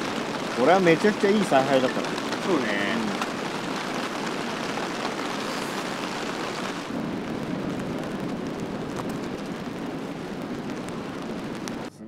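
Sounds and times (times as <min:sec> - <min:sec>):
heavy rain: 0:00.0 - 0:11.9.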